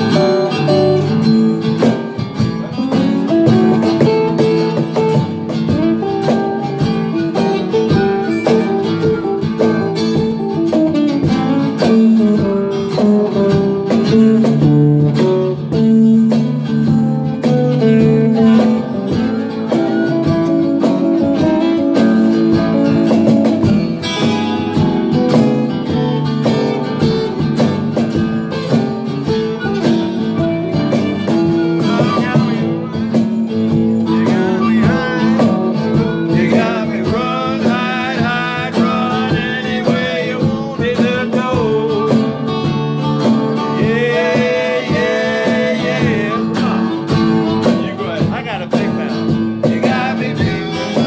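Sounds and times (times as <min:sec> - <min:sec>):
bending lead guitar line: 0:00.0 - 0:51.0
guitars strumming chords: 0:00.0 - 0:51.0.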